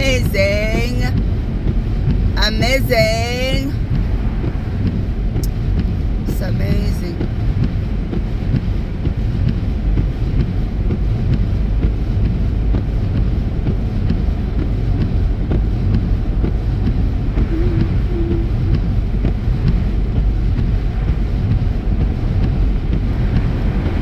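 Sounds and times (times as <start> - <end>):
car tyres and engine rumble: 0.0 - 24.0.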